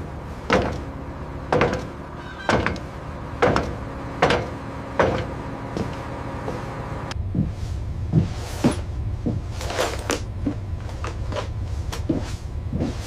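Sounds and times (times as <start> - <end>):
low hum: 0.0 - 13.0
heavy metallic knocks: 0.4 - 13.0.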